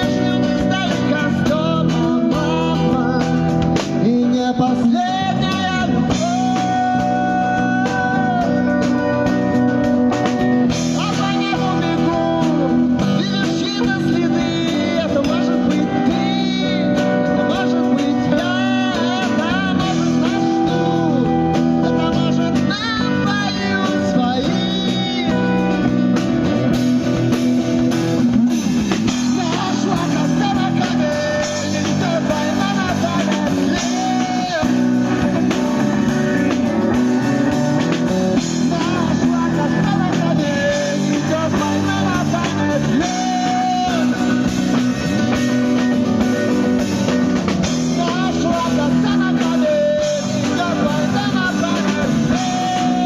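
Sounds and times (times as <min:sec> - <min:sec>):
melodic guitar lead: 0:00.0 - 0:53.0
rock band playing: 0:00.0 - 0:53.0.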